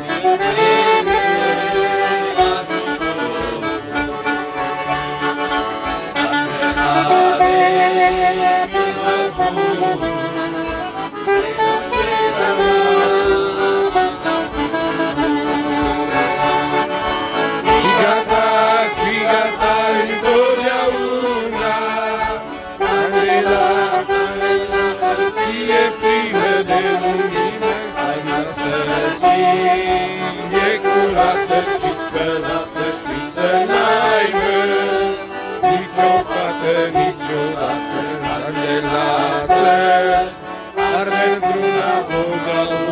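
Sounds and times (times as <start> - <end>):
man singing: 0.0 - 4.6, 6.2 - 16.7, 17.6 - 42.9
saxophone playing: 0.0 - 32.6, 33.4 - 42.9
accordions playing: 0.0 - 42.9.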